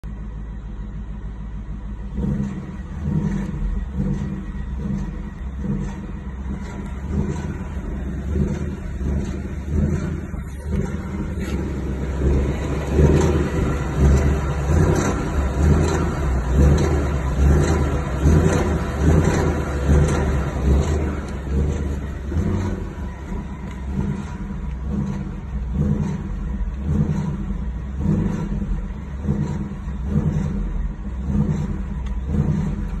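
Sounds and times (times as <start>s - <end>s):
car engine revving on the road: 0.0s - 33.0s
engine noise when letting off the gas: 0.0s - 33.0s.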